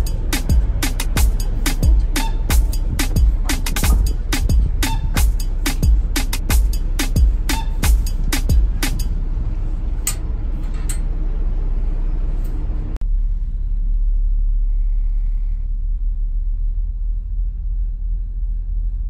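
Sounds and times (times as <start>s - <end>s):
ferry engine rumble: 0.0s - 19.0s
wind: 0.0s - 19.0s.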